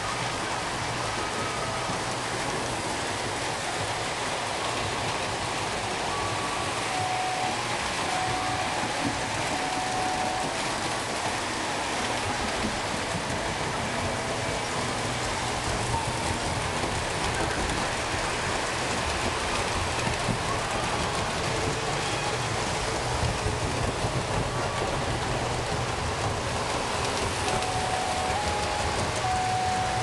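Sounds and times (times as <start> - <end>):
model trains whirring and clattering: 0.0 - 30.0.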